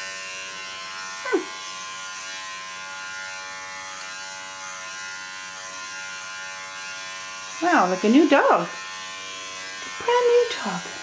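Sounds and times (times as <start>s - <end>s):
pet clipper buzzing: 0.0s - 11.0s.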